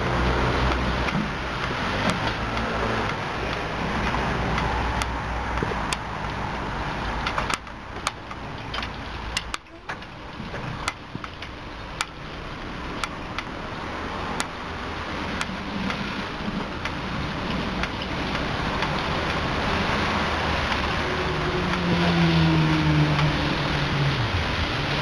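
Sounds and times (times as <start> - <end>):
car wash brushes and spray: 0.0 - 25.0
sharp ticks: 0.2 - 10.2, 10.8 - 21.0.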